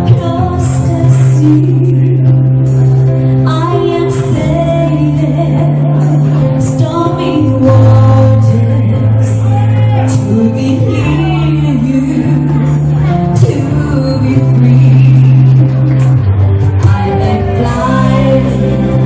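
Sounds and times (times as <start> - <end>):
slow pop song with singing: 0.0 - 19.0.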